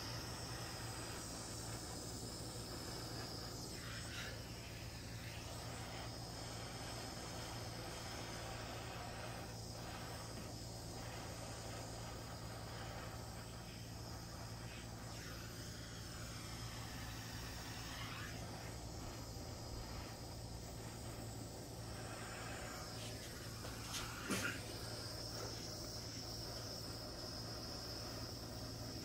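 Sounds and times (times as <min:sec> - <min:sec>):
blowtorch flame hissing: 0:00.0 - 0:29.0.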